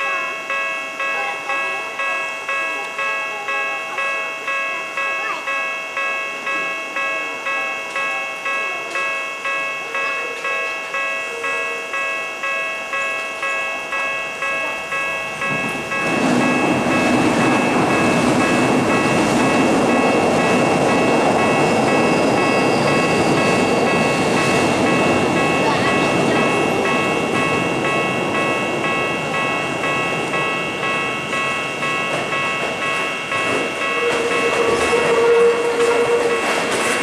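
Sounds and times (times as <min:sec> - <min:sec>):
level-crossing bell ringing: 0:00.0 - 0:37.0
train wheels on rails: 0:00.0 - 0:37.0.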